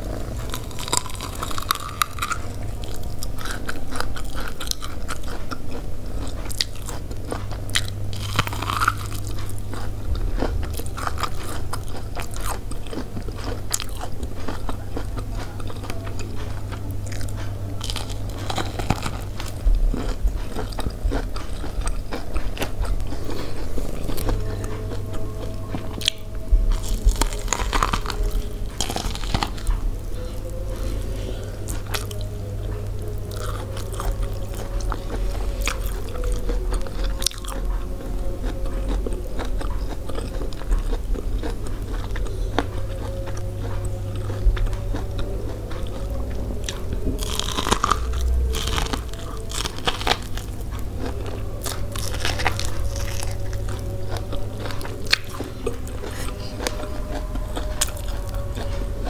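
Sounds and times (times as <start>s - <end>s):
chewing corn on the cob: 0.0s - 59.0s.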